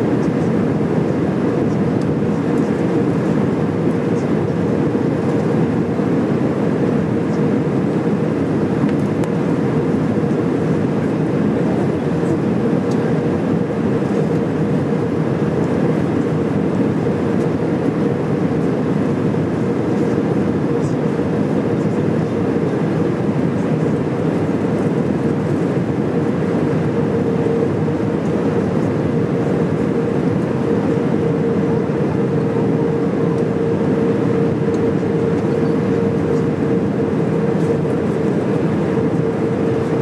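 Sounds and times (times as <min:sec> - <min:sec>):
jet engines: 0:00.0 - 0:40.0
steady cabin hum: 0:00.0 - 0:40.0.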